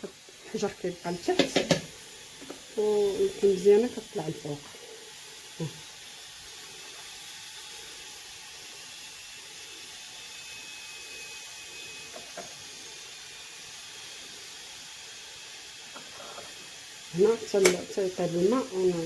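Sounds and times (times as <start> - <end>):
water heating in a pot: 0.0 - 19.0.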